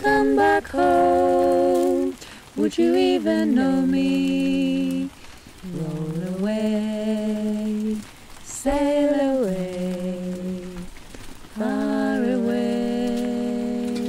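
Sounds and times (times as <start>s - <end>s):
person singing unaccompanied: 0.0s - 14.0s.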